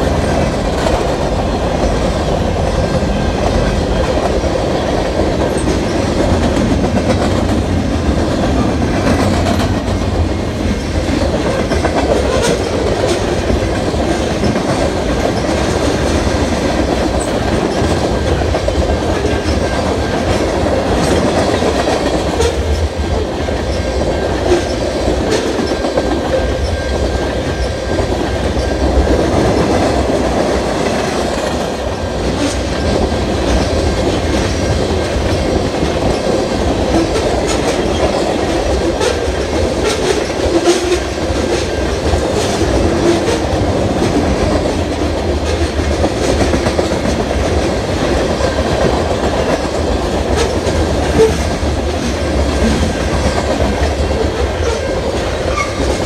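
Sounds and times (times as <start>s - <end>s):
train wheels rumbling on rails: 0.0s - 56.0s
wheels clicking over track joints: 0.1s - 56.0s.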